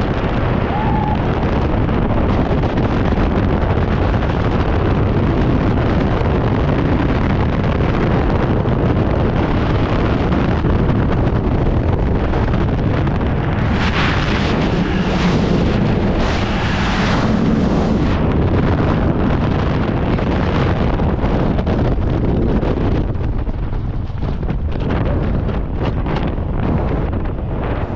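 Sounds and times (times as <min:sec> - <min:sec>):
wind rushing on microphone: 0:00.0 - 0:27.9.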